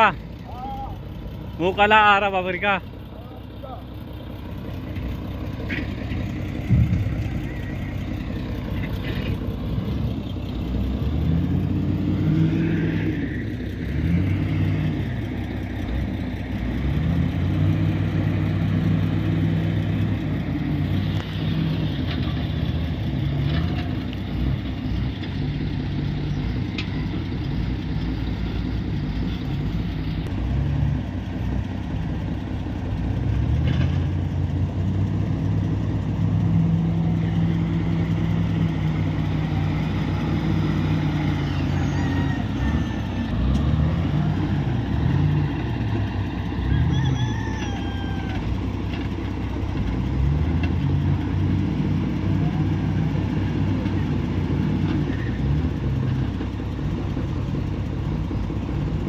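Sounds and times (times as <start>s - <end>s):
wheel loader diesel engine revving: 0.0s - 59.0s.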